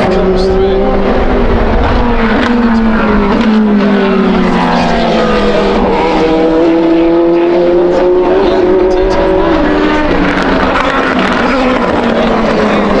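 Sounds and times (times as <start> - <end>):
car engine accelerating: 0.0 - 13.0
racing car engines passing: 0.0 - 13.0.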